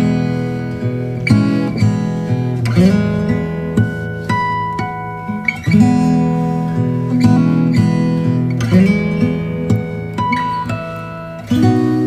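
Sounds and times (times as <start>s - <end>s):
acoustic guitar strumming: 0.0s - 12.0s
plucked guitar notes: 0.0s - 12.0s.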